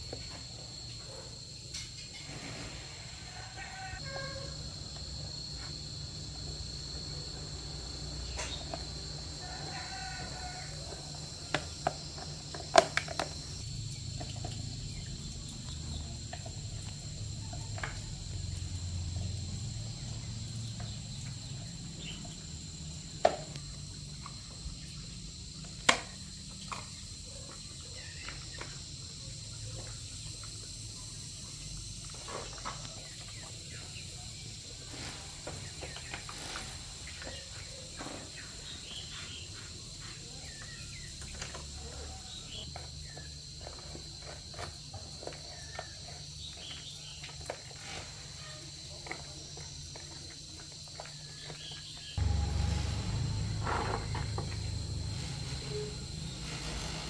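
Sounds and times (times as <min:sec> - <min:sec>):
crickets and insects droning: 0:00.0 - 0:57.0.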